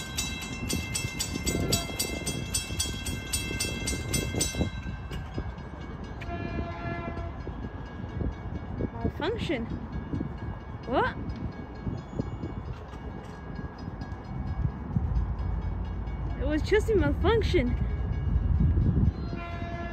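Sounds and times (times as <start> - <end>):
crossing warning bell ringing: 0.0 - 19.9.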